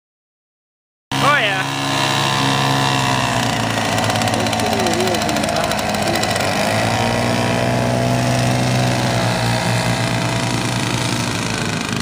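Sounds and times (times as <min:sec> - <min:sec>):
aircraft engines at full power: 0:01.1 - 0:12.0.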